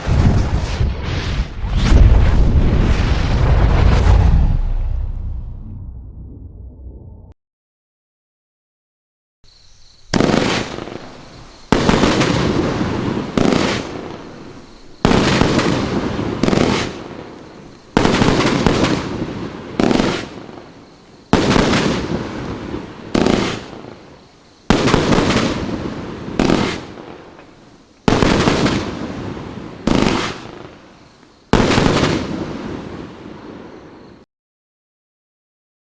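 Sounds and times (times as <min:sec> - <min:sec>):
fireworks reports: 0:00.0 - 0:05.8, 0:10.1 - 0:34.2.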